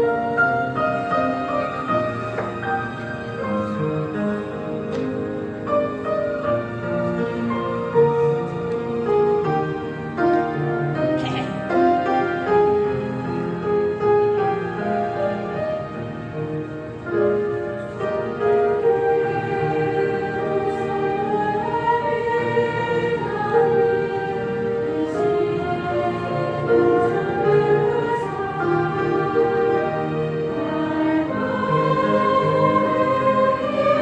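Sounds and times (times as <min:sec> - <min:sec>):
choir singing a hymn: 0:00.0 - 0:34.0
instrumental accompaniment: 0:00.0 - 0:34.0.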